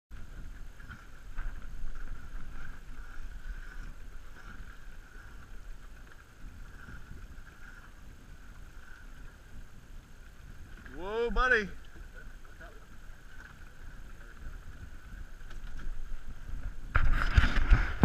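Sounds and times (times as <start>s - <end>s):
wind and water rumble: 0.1s - 18.0s.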